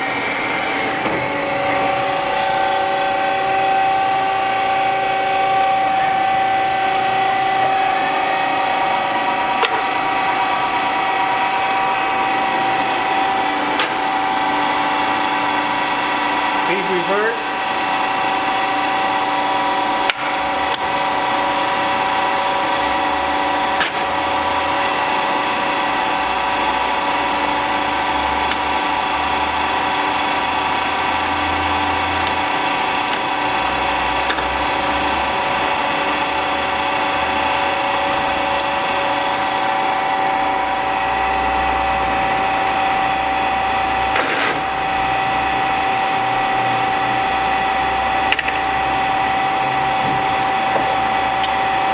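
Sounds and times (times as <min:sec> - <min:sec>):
lathe mechanical whine: 0:00.0 - 0:51.9.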